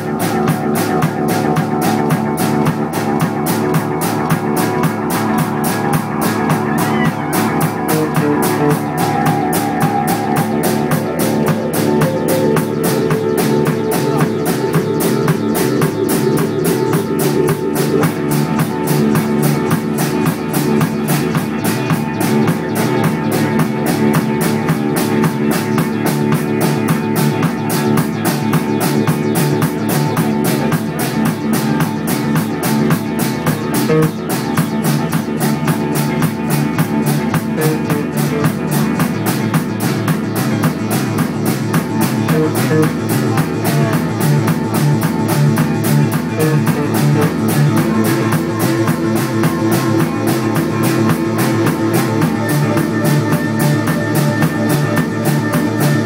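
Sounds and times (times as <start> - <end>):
bass guitar: 0.0 - 56.0
drums fast beat: 0.0 - 56.0
electric guitar: 0.0 - 56.0.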